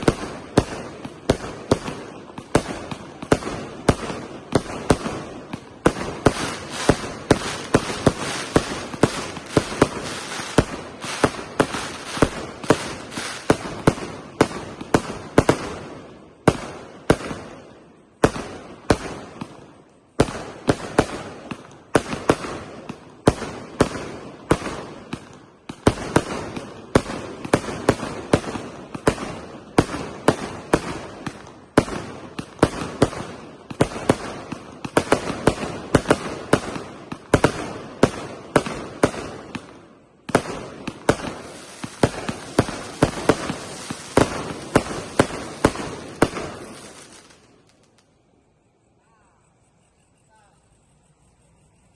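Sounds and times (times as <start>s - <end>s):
fireworks bangs: 0.0s - 48.2s
fireworks crackling: 0.0s - 51.9s.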